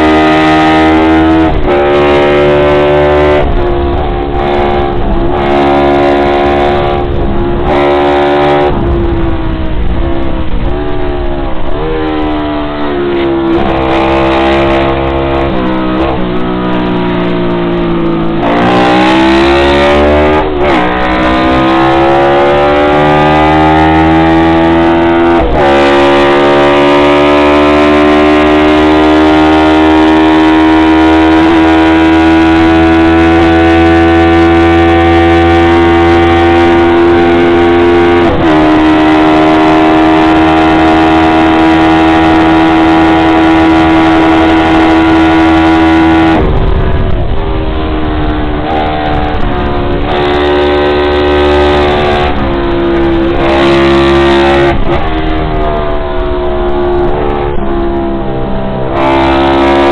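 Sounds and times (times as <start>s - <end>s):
racing engine at high revs: 0.0s - 59.9s.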